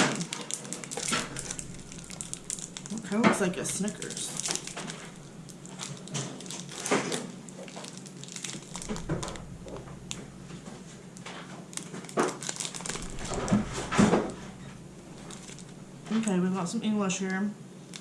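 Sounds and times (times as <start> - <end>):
plastic wrapper crinkling: 0.0 - 16.5.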